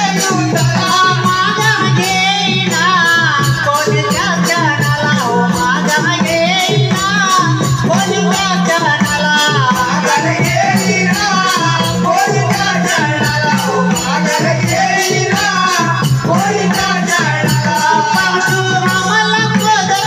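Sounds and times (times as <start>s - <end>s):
drum beat: 0.0s - 20.0s
man singing: 0.0s - 20.0s.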